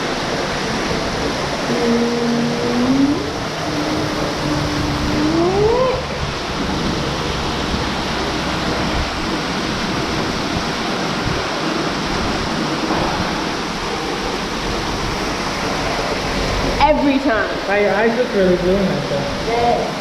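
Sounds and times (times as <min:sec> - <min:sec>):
rushing falling water: 0:00.0 - 0:20.0.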